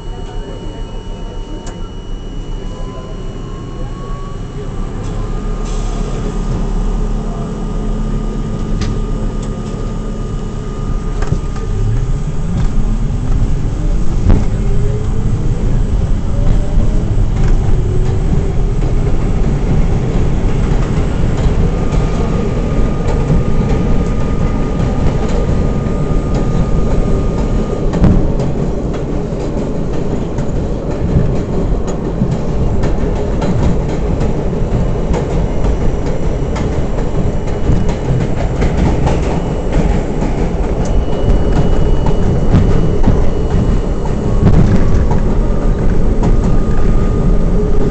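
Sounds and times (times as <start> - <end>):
subway train motors whining: 0.0 - 47.9
thin steady whine: 0.0 - 47.9
wheels rumbling on track: 0.0 - 47.9.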